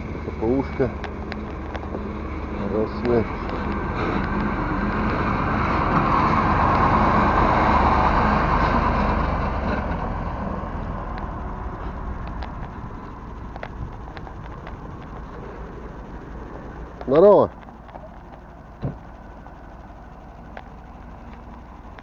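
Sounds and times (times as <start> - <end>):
truck driving past: 0.0 - 22.0.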